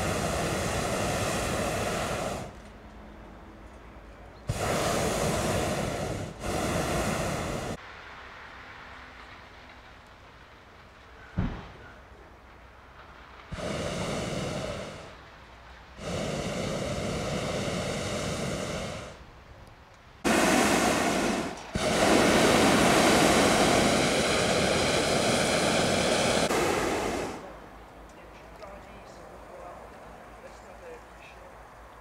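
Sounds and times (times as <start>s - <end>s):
propane burner blasts: 0.0s - 3.0s, 4.3s - 31.0s.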